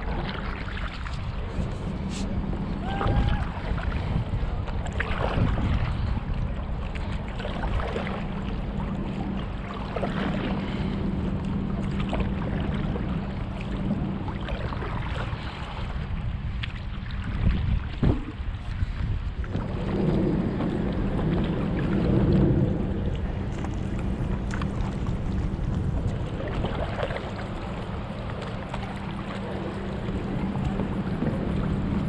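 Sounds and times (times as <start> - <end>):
low hum: 0.0 - 32.0
paddle strokes splashing water: 0.0 - 32.0
wind on microphone: 0.0 - 32.0.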